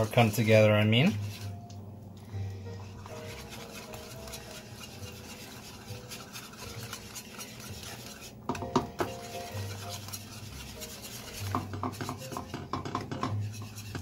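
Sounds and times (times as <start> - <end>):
wire whisk scraping a steel saucepan: 0.0 - 1.6, 2.7 - 14.0.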